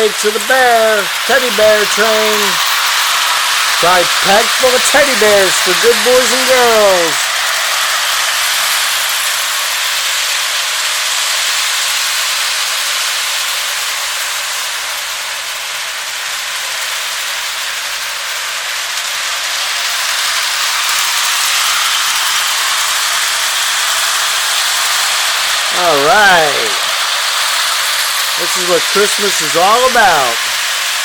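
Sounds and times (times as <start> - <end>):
toy train running on track: 0.0 - 31.0.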